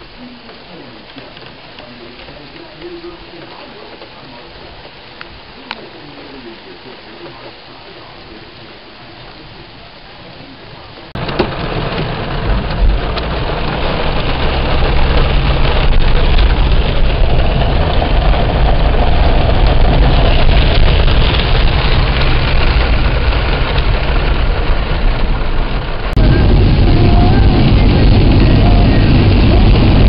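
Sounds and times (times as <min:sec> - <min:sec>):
deep engine rumble: 0:00.0 - 0:30.0
rain on car: 0:00.0 - 0:30.0
tyres on wet road: 0:00.0 - 0:30.0.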